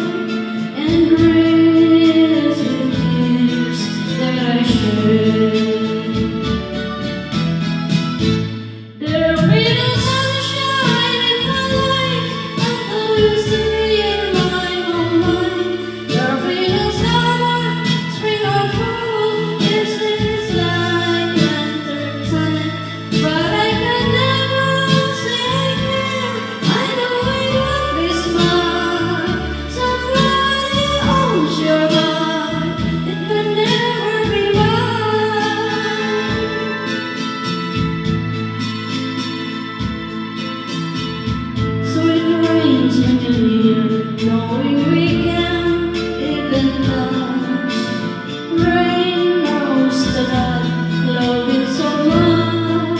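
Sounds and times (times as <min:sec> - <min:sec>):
woman singing: 0:00.0 - 0:07.4, 0:09.0 - 0:39.8, 0:41.6 - 0:52.9
karaoke backing track: 0:00.0 - 0:52.9.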